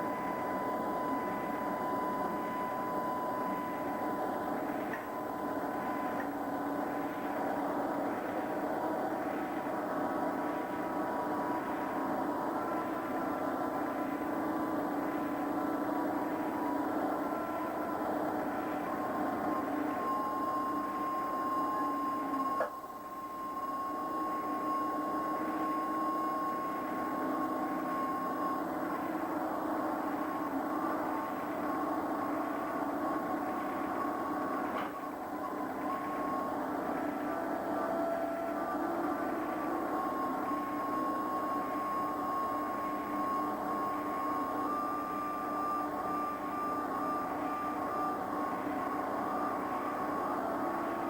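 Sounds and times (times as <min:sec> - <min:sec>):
low steady hum: 0:00.0 - 0:51.0
machine whining: 0:00.0 - 0:51.0.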